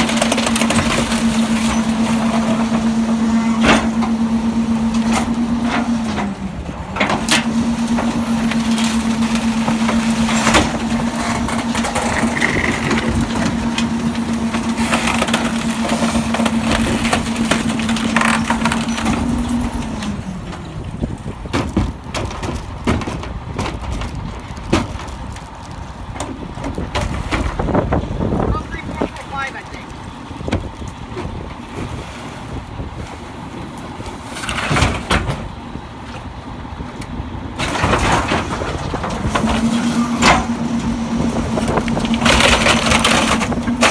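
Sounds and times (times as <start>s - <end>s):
trash being crushed: 0.0s - 29.1s, 29.9s - 43.9s
garbage truck engine whining: 0.0s - 43.9s.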